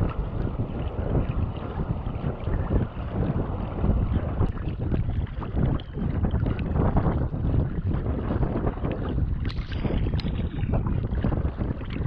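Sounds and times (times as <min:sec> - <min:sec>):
water splashing around kayaks: 0:00.0 - 0:12.0
wind buffeting microphone: 0:00.0 - 0:12.0.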